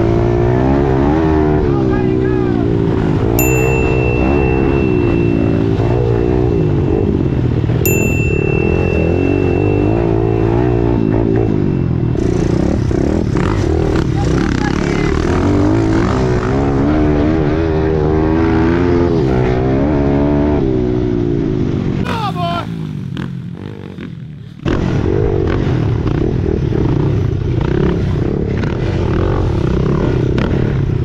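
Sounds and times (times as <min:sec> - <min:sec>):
dirt bike engine revving: 0:00.0 - 0:31.0
other dirt bikes: 0:00.0 - 0:31.0.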